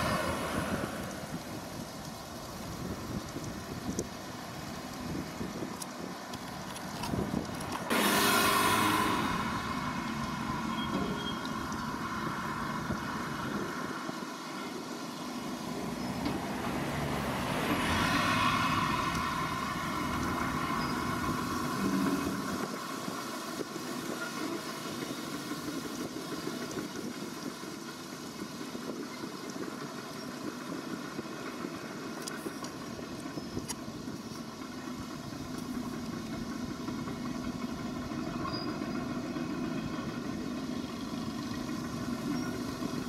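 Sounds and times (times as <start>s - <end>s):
excavator diesel engine: 0.0s - 43.0s.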